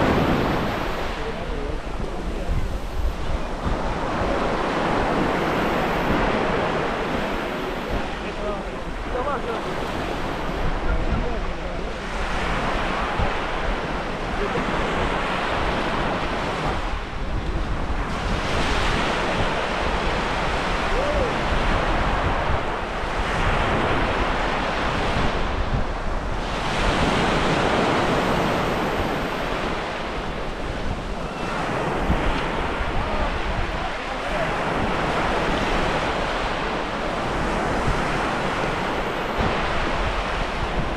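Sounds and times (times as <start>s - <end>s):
waves breaking on pebble shore: 0.0s - 40.9s.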